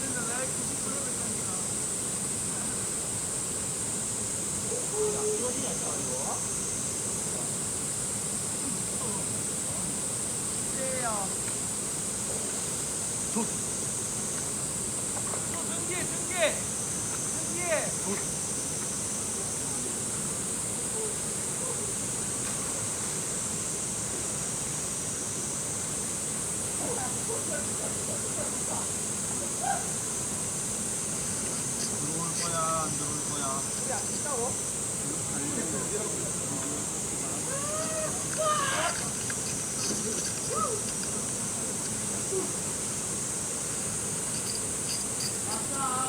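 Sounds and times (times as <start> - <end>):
high-pitched hiss: 0.0 - 46.0
high-pitched insect drone: 0.0 - 46.0.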